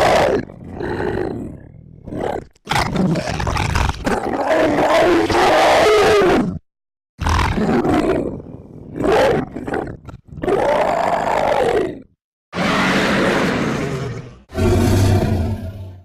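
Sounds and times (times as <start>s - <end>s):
monster roars: 0.0s - 6.4s, 7.2s - 16.0s.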